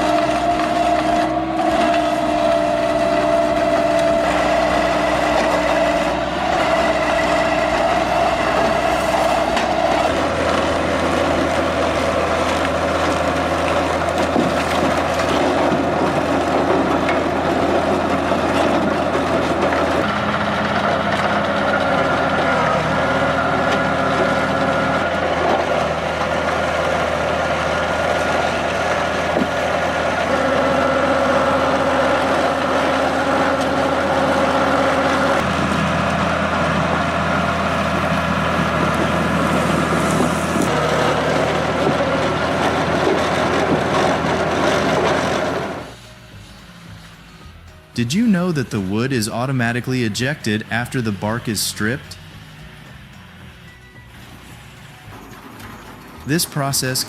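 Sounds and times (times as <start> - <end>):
debarking machinery drone: 0.0 - 57.0.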